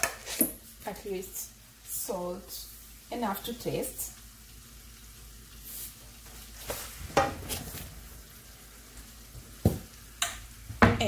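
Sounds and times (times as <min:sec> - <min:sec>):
meat and onions sizzling: 0:00.0 - 0:11.0.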